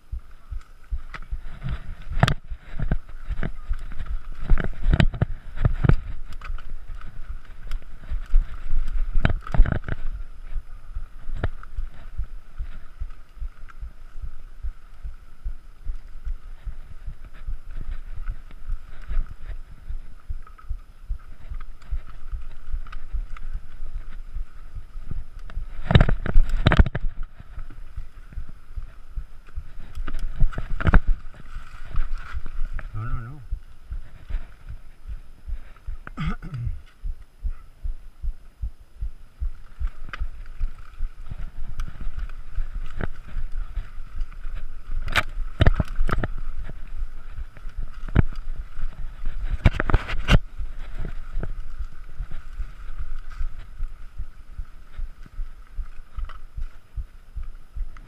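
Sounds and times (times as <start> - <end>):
bicycle bumps and rattles: 0.0 - 32.9, 39.4 - 58.0
bicycle rushing over trail: 0.0 - 36.0, 39.2 - 58.0.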